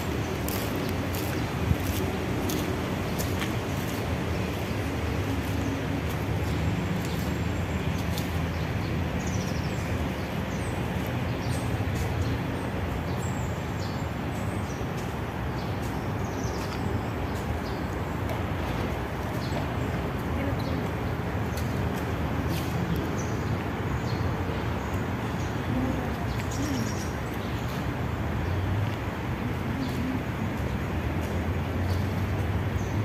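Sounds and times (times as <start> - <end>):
traffic noise: 0.0 - 33.0.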